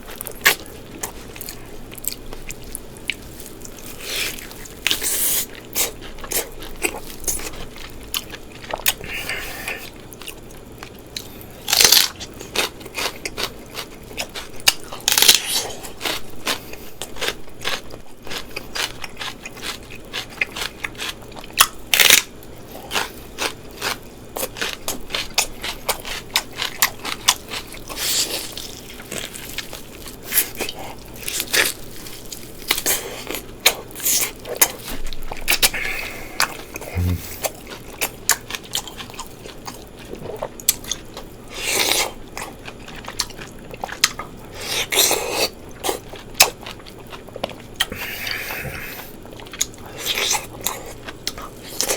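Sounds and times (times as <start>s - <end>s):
chewing and wet mouth sounds: 0.0s - 51.9s.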